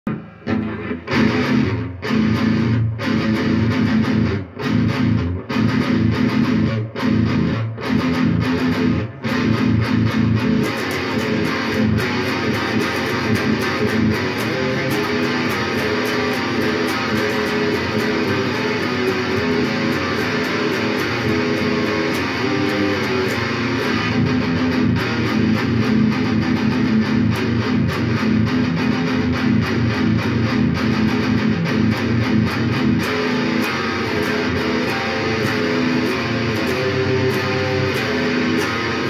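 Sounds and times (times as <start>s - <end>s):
guitar chords: 0.0s - 39.0s.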